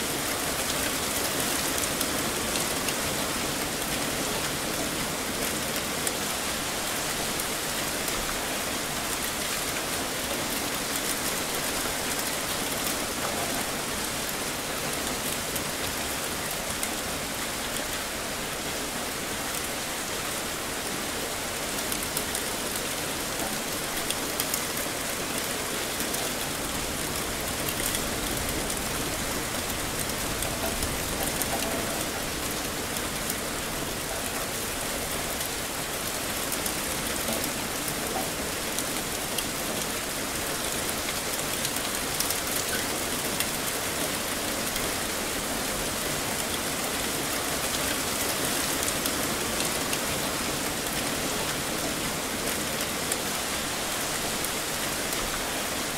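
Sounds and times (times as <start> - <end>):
heavy rain on hard surfaces: 0.0 - 55.9.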